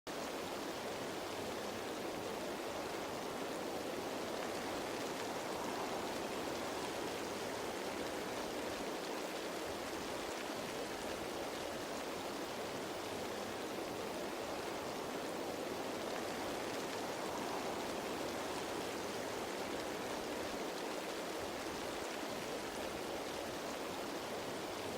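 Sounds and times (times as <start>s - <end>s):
rain falling on leaves: 0.1s - 24.9s.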